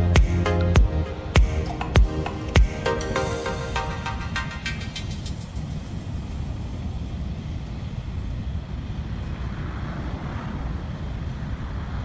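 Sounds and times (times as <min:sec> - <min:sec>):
freight train wheels rumbling on rails: 0:01.4 - 0:12.0.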